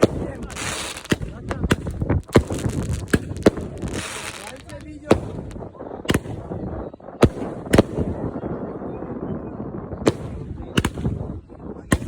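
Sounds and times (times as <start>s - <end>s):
fireworks sharp bangs: 0.0s - 8.6s, 10.0s - 12.0s
distant fireworks rumble: 0.0s - 12.0s.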